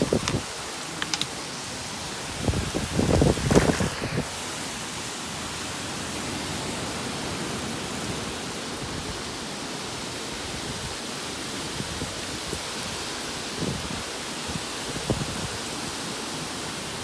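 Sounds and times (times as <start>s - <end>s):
heavy rain and wind: 0.0s - 17.0s.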